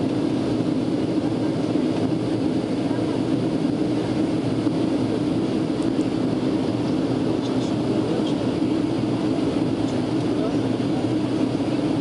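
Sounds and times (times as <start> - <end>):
jet airliner cabin drone: 0.0 - 12.0.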